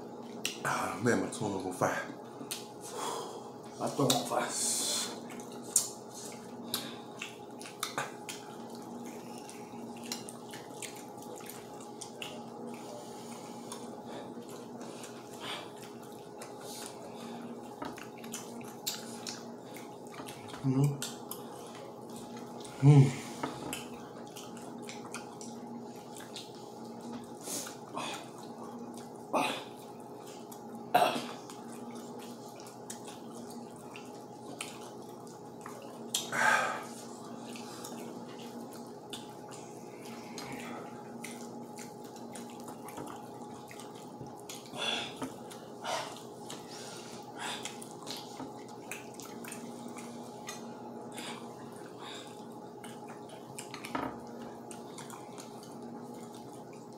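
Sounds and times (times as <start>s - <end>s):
steady low hum: 0.0s - 56.9s
mouth smacks and chewing: 2.4s - 2.7s, 5.2s - 22.8s, 23.7s - 29.2s, 31.3s - 36.3s, 37.4s - 46.8s, 47.4s - 56.9s.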